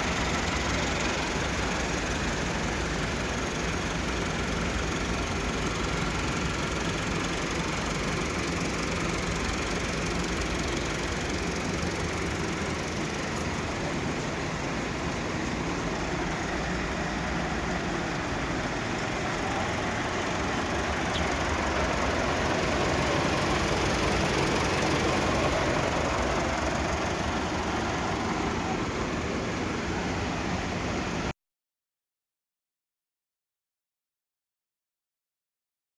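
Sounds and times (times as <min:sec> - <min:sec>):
tractor diesel engine idling: 0:00.0 - 0:31.3.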